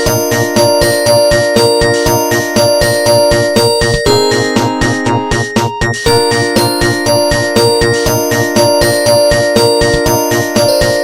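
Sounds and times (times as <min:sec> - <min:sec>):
mobile phone ringtone: 0:00.0 - 0:11.0.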